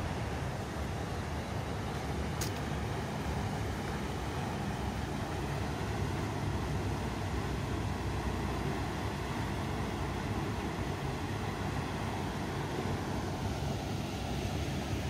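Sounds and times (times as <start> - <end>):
floodwater rushing with deep rumble: 0.0 - 15.0.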